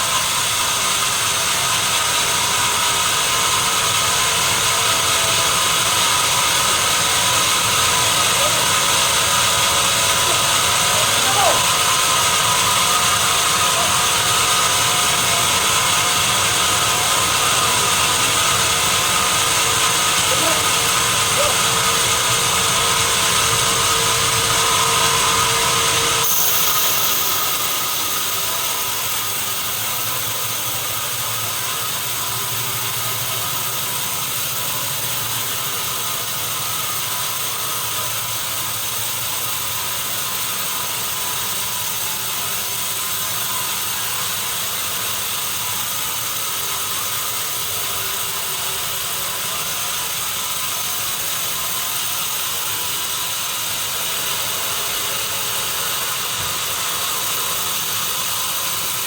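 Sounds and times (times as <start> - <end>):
constant mechanical whine: 0.0 - 59.0
sawmill machinery running: 0.0 - 59.0.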